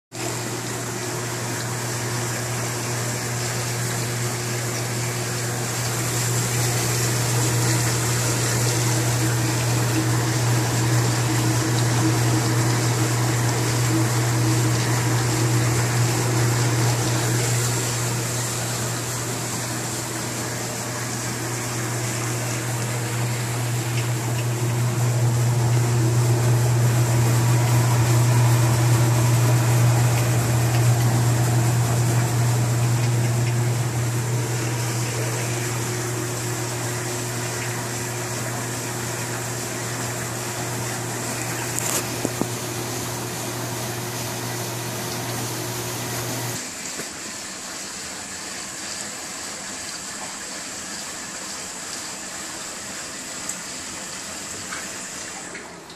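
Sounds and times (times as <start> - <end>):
dishwasher pump hum: 0.1 - 55.9
water spraying inside dishwasher: 0.1 - 55.9.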